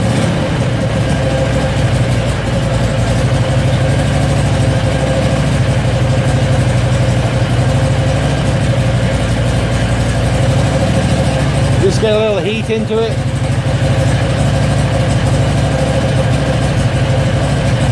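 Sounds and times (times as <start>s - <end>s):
engine idling steadily: 0.0s - 17.9s.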